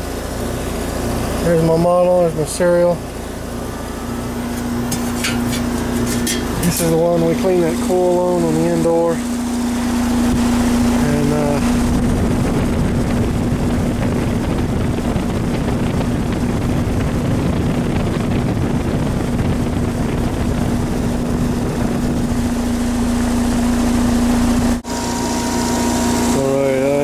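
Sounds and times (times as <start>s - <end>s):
compressor electrical hum: 0.0s - 27.0s
condenser fan blowing: 0.0s - 27.0s.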